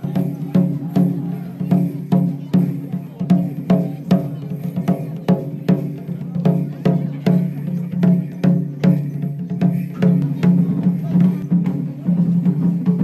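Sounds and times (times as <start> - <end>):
wood-block-like percussive beat: 0.0 - 13.0.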